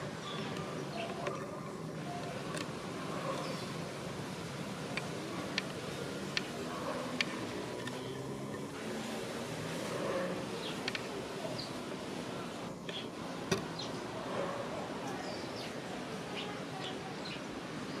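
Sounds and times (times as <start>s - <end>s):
murmur of distant voices: 0.0s - 18.0s.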